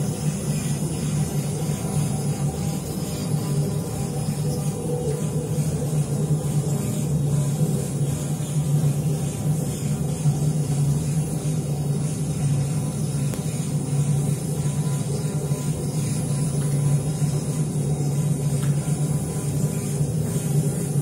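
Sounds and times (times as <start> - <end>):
woodworking machinery humming: 0.0 - 21.0.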